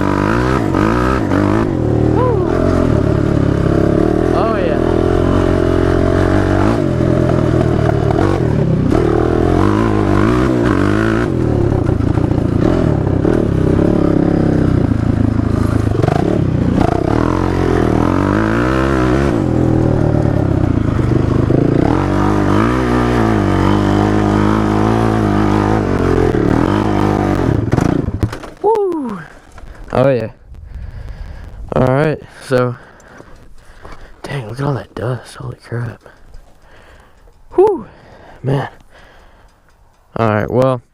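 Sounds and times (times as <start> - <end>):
motorcycle engine revving: 0.0 - 34.8.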